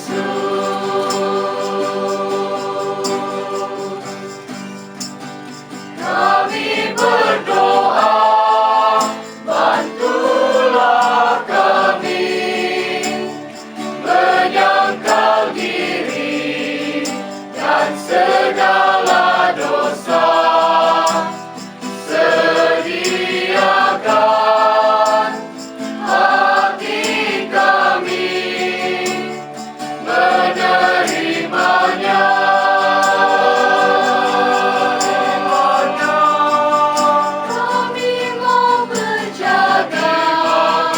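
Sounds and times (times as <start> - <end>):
choir singing: 0.0 - 4.6, 5.8 - 40.9.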